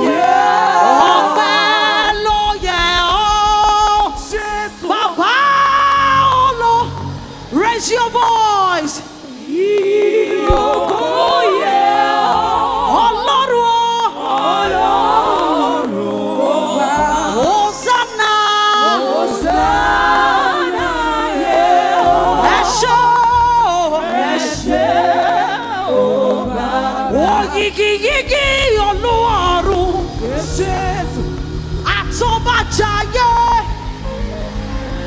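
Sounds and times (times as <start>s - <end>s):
instrumental accompaniment: 0.0s - 35.0s
people singing a praise song: 0.0s - 35.0s.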